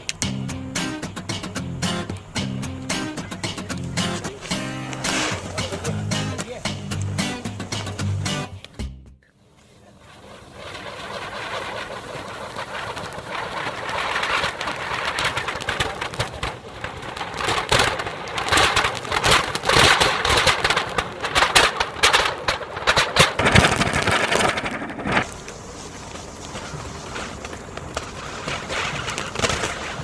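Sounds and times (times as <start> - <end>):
fountain firecrackers hissing: 0.0 - 8.8, 9.4 - 30.0
dense crackling: 0.0 - 8.9, 9.5 - 30.0.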